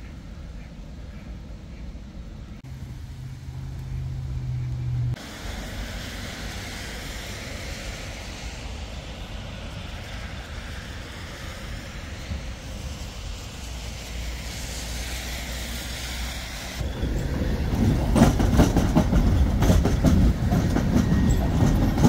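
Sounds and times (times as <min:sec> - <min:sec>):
tram humming: 0:00.0 - 0:22.0
steady rushing noise: 0:01.5 - 0:22.0.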